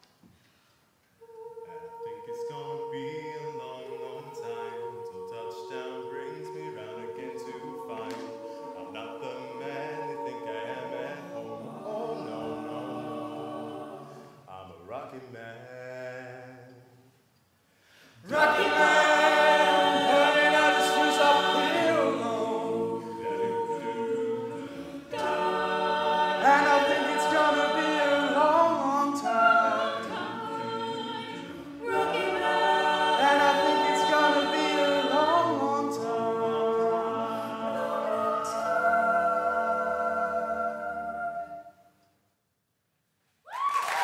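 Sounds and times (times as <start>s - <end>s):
a cappella group singing: 1.2s - 17.1s, 18.0s - 42.0s.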